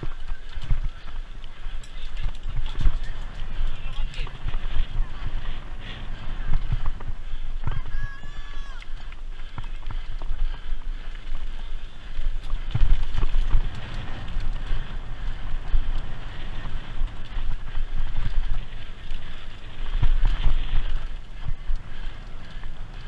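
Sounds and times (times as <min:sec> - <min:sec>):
bike rattling over bumps: 0:00.0 - 0:23.0
tyres crunching on stony trail: 0:00.0 - 0:23.0
wind on microphone: 0:00.0 - 0:23.0.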